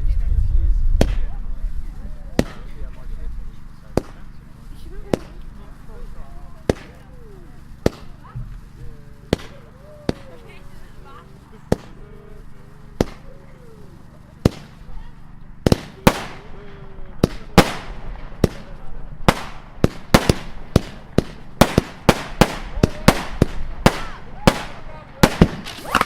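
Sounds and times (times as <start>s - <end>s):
fireworks banging: 0.0s - 26.0s.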